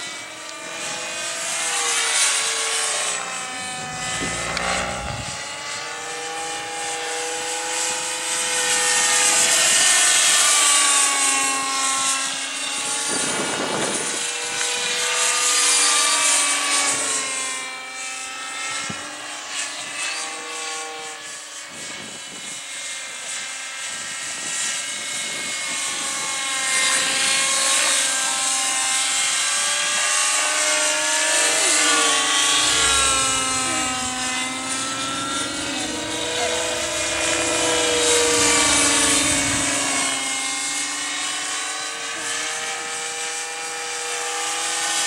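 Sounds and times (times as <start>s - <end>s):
model helicopter engine and rotor whine: 0.0s - 45.0s.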